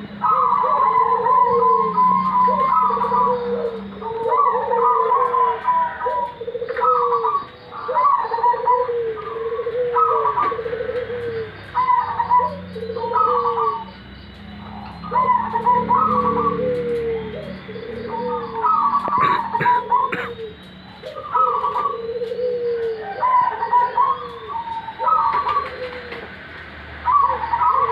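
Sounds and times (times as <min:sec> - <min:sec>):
doves cooing: 0:00.0 - 0:27.9.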